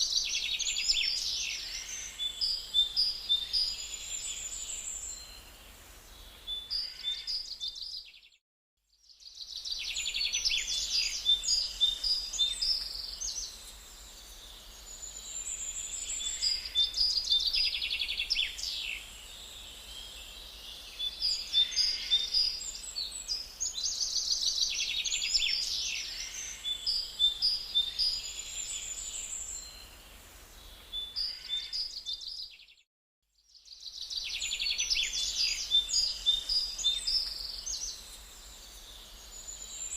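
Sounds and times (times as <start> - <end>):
songbirds singing and chirping: 0.0 - 8.4, 9.0 - 39.9.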